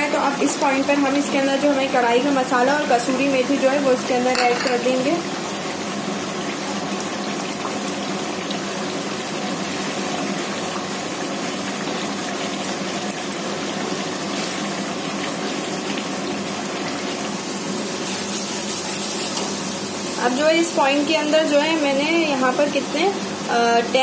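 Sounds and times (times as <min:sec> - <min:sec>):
sauce sizzling in hot oil: 0:00.0 - 0:24.0.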